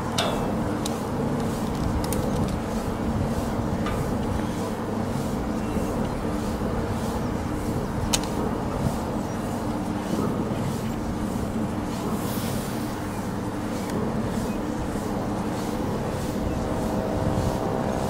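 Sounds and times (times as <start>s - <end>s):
wind rumble: 0.0s - 18.0s
wind turbine humming: 0.0s - 18.0s
rhythmic blade swish: 2.6s - 18.0s.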